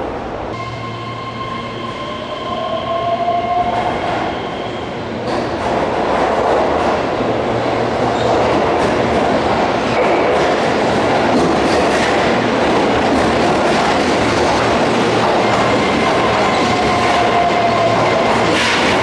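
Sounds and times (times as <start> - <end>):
train running rumble: 0.1 - 19.0.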